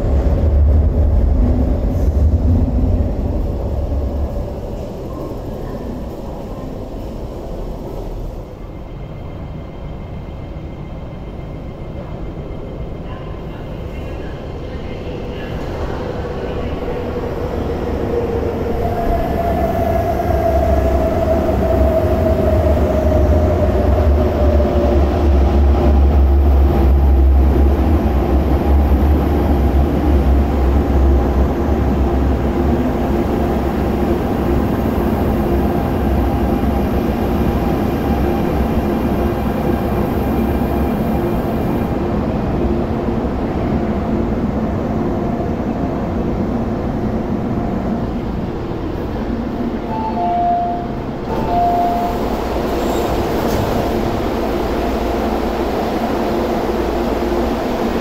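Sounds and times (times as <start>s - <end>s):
steady train hum: 0.0s - 58.0s
train wheels rumbling on rails: 0.0s - 58.0s.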